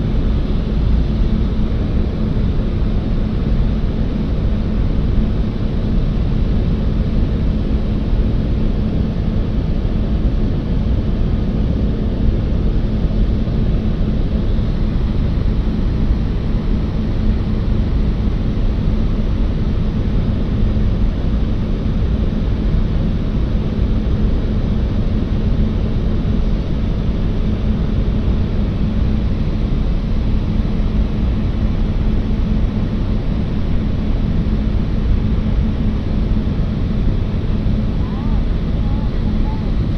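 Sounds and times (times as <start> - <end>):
propeller airplane engines droning: 0.0 - 39.9.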